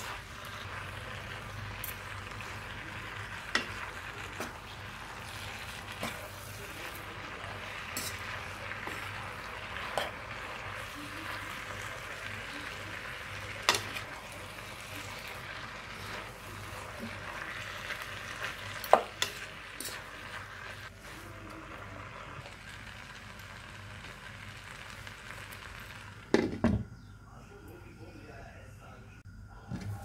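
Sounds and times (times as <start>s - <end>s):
noodles sizzling in a pan: 0.0s - 26.9s.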